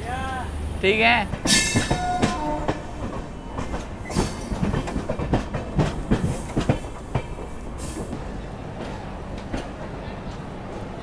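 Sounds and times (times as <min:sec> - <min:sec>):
train rumble: 0:00.0 - 0:11.0
train wheels clattering over rail joints: 0:01.3 - 0:10.8.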